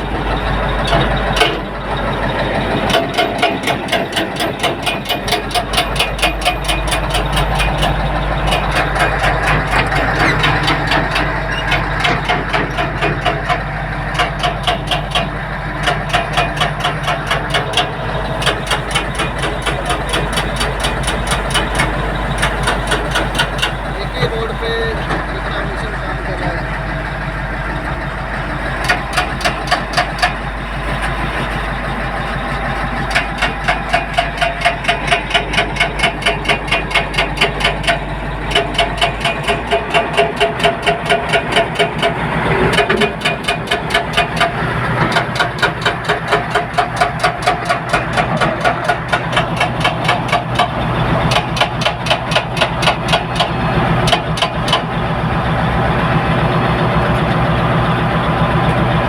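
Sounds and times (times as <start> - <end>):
fast metallic knocking: 0.0 - 25.4, 28.7 - 30.6, 32.7 - 55.0
diesel construction machinery running: 0.0 - 59.0.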